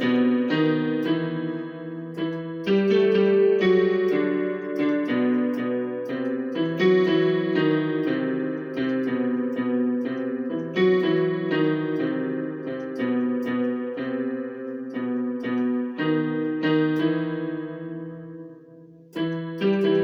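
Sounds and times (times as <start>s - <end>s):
electronic keyboard playing slowly: 0.0s - 20.0s.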